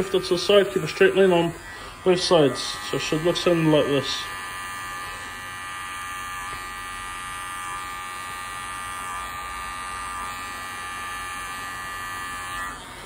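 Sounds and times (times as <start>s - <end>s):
hair clippers buzzing: 0.0s - 13.0s.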